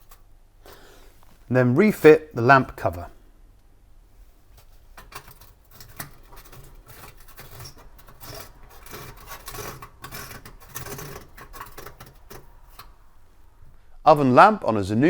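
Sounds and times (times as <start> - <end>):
lamp cover scraping and rubbing: 0.0 - 3.2, 4.4 - 13.5.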